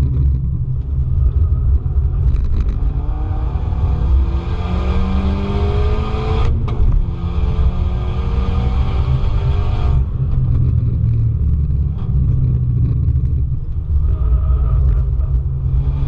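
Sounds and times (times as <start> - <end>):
car engine accelerating: 0.0 - 16.0
wind and road rumble: 0.0 - 16.0.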